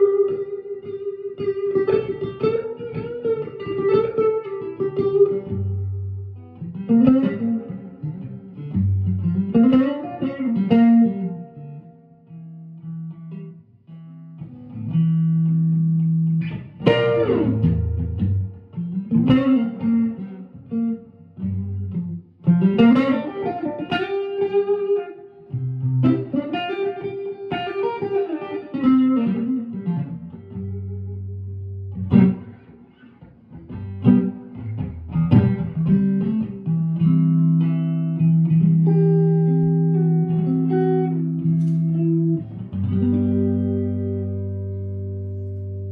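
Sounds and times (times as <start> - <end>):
electric guitar through amps: 0.0 - 45.9.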